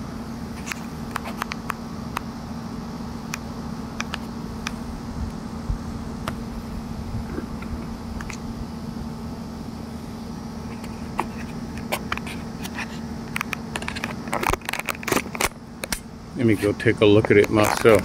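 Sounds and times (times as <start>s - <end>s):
steady low mechanical hum: 0.0s - 18.0s.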